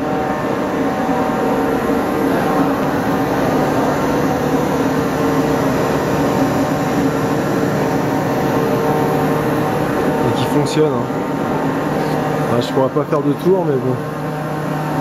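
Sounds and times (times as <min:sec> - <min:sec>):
locomotive mechanical hum: 0:00.0 - 0:15.0.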